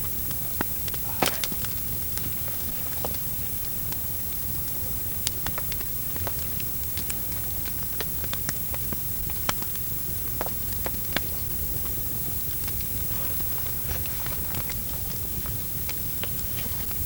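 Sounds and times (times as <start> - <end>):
campfire crackling: 0.0 - 17.0
steady hiss of fire: 0.0 - 17.0.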